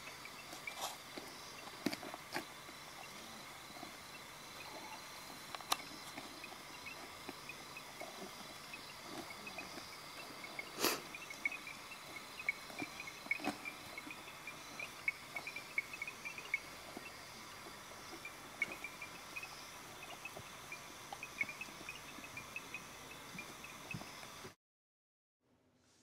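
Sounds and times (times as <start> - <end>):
insects buzzing: 0.0 - 24.6
high chirps: 3.0 - 24.0.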